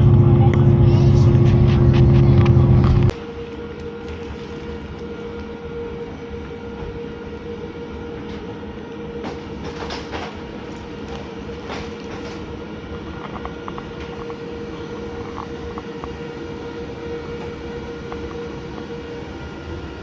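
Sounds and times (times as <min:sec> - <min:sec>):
constant hum: 0:00.0 - 0:20.0
passenger train rumbling: 0:00.0 - 0:20.0.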